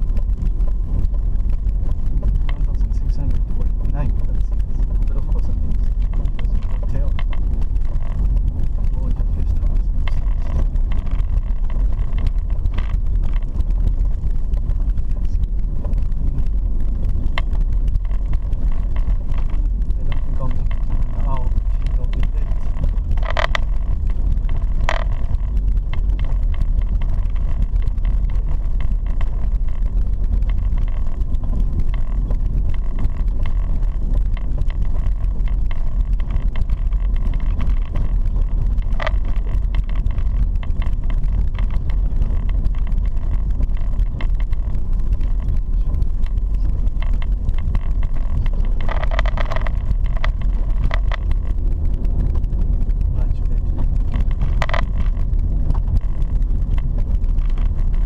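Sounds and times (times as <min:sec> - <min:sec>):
car rumble on dirt road: 0:00.0 - 0:58.0.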